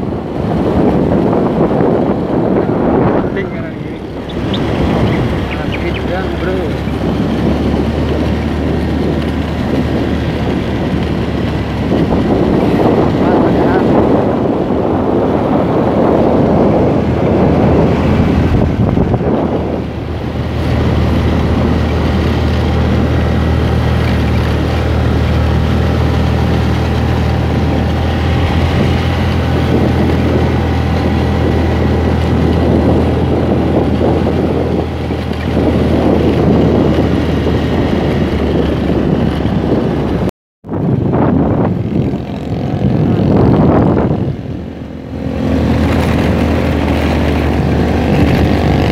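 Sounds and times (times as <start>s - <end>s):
motorcycle engine under load: 0.0s - 48.9s
wind rumble on microphone: 0.0s - 48.9s.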